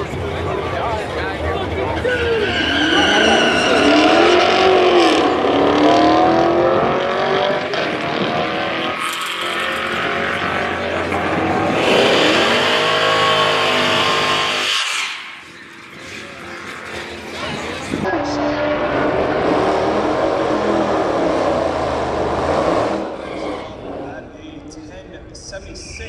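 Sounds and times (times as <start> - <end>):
car engine at full throttle: 0.0 - 25.5.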